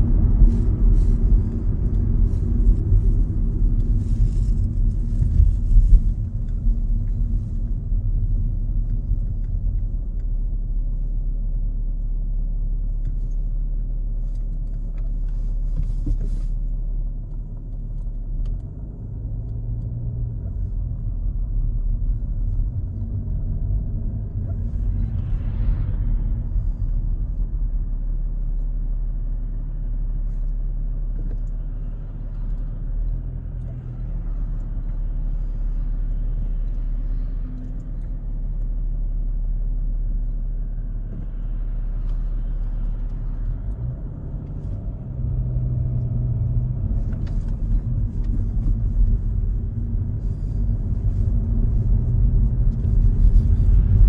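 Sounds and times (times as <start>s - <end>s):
car engine drone: 0.0s - 54.0s
tyre and road rumble: 0.0s - 54.0s.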